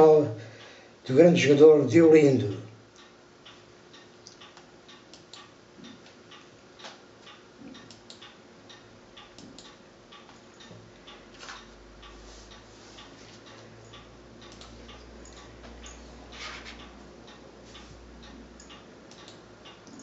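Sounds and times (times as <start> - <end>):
faint ticking clicks: 2.4 - 16.0, 16.8 - 20.0.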